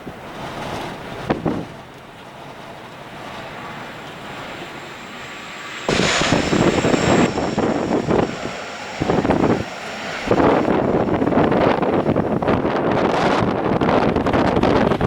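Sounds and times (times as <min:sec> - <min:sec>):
airliner engine noise with whine: 0:00.0 - 0:15.0
wind gusts on microphone: 0:00.0 - 0:15.0.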